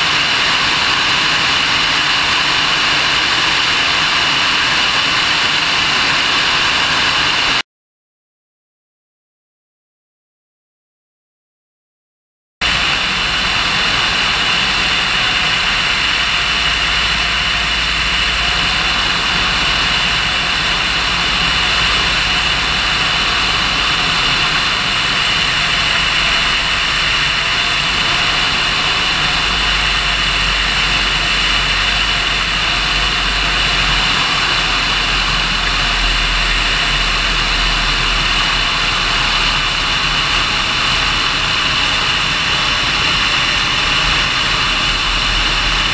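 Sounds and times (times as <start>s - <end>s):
propeller aircraft engine drone: 0.0s - 7.6s, 12.6s - 45.9s.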